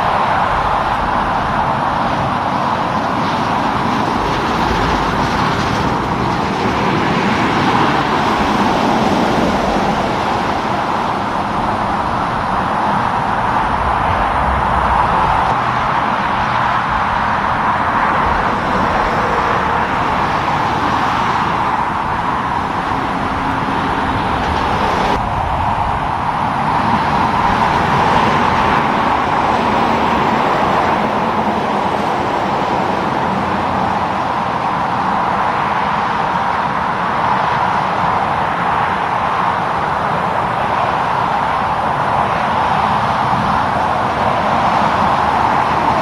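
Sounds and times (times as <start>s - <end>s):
road traffic passing: 0.0s - 46.0s.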